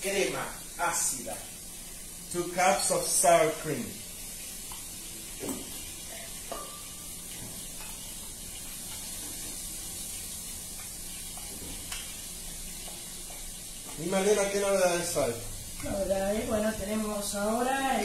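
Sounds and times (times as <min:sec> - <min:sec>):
chicken sizzling in a pan: 0:00.0 - 0:18.0.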